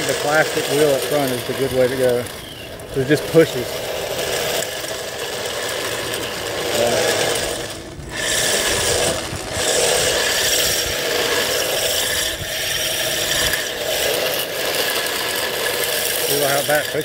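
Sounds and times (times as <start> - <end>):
electric motor whine: 0.0 - 17.0
plastic wheels scraping on road: 0.0 - 17.0.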